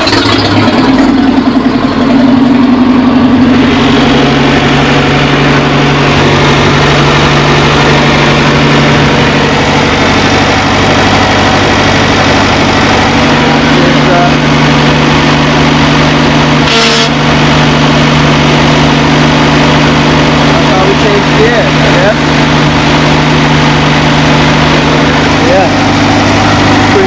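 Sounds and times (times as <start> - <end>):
boat engine idling: 0.0 - 27.0.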